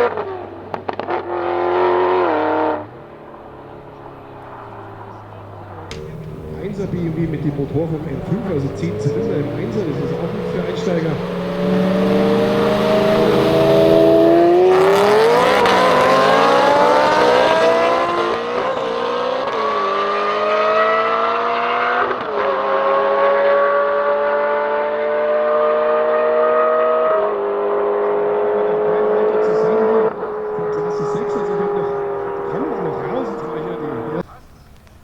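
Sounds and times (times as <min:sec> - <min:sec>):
car engine accelerating hard: 0:00.0 - 0:34.4.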